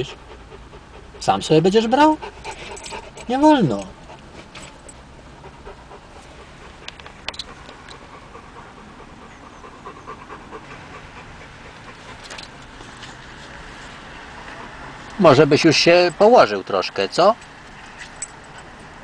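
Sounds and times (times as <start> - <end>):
dog panting: 0.0 - 15.4.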